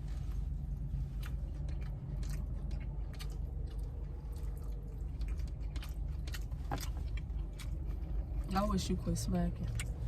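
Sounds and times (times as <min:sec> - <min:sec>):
low rumble: 0:00.0 - 0:10.0
chewing and wet lip-smacking: 0:00.2 - 0:10.0.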